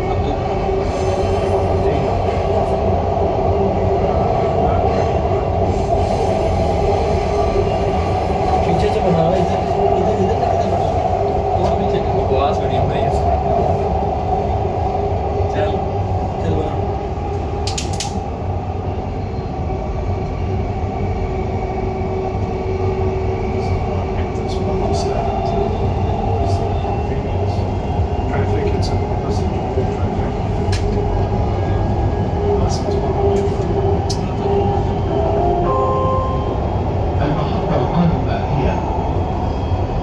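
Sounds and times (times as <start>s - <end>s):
train carriage rumble: 0.0s - 40.0s
train whine: 0.0s - 40.0s.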